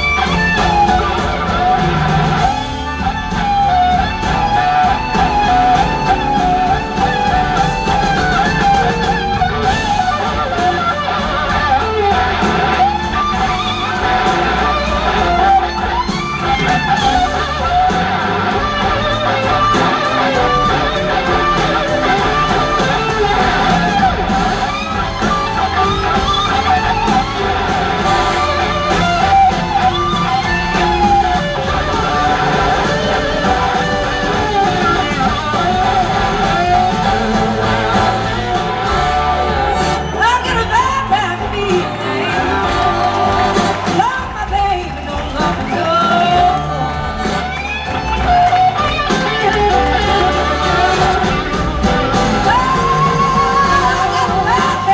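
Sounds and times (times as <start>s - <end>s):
bass guitar: 0.0s - 54.9s
drums: 0.0s - 54.9s
electric guitar lead: 0.0s - 54.9s.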